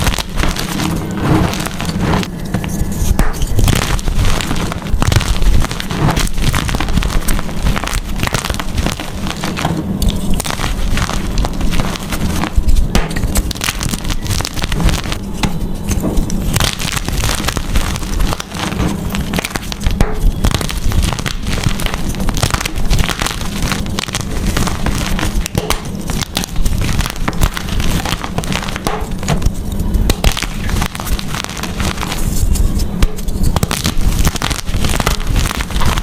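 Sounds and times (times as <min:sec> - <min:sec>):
chalk being crushed: 0:00.0 - 0:36.0.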